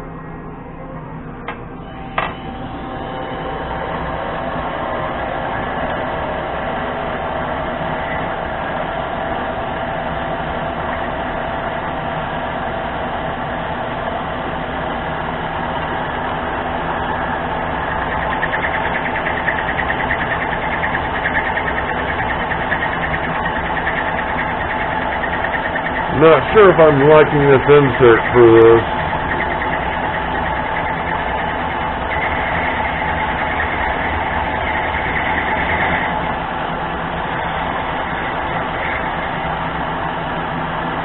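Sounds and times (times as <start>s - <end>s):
lathe motor and gear whine: 0.0s - 41.0s.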